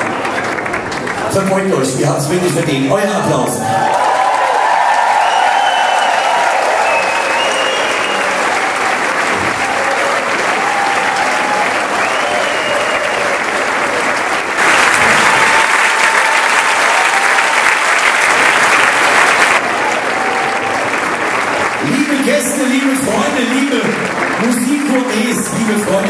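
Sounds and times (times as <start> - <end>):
audience applauding and cheering: 0.0 - 1.8, 3.4 - 26.0.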